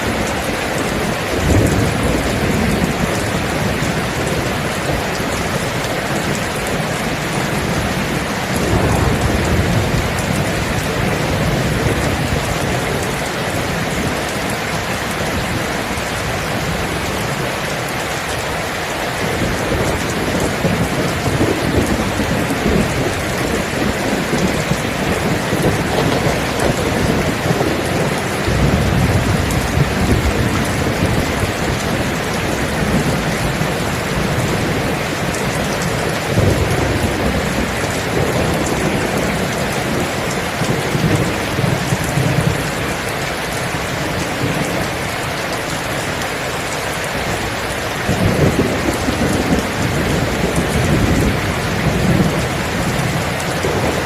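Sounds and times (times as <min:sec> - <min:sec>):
heavy rain: 0:00.0 - 0:54.0
rolling thunder: 0:01.0 - 0:14.3, 0:19.2 - 0:43.1, 0:47.9 - 0:54.0.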